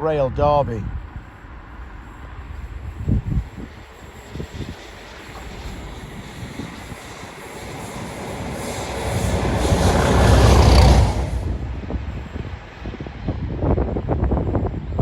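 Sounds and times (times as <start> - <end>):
freight train engine and wheel rumble: 0.0 - 15.0.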